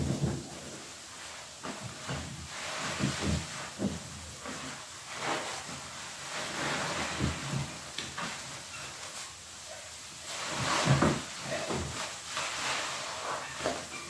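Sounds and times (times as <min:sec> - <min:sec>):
sponge squelching in foam: 0:00.0 - 0:14.0.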